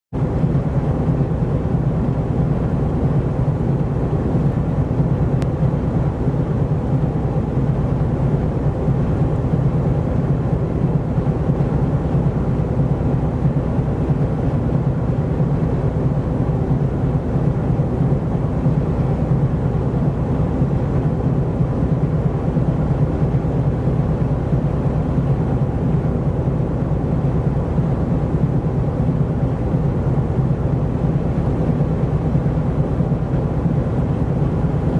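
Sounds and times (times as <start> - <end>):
ship engine low rumble: 0.2 - 34.9.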